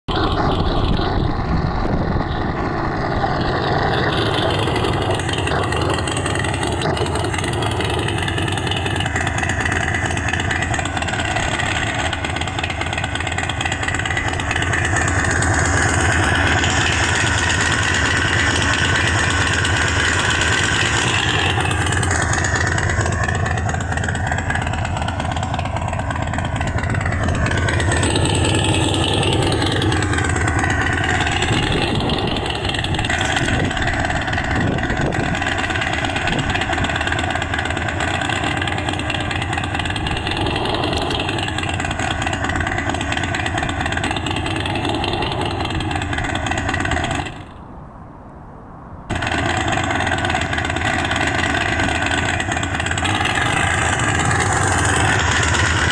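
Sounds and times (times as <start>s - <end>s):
synthesized motorcycle engine: 0.0s - 47.8s, 49.1s - 55.9s.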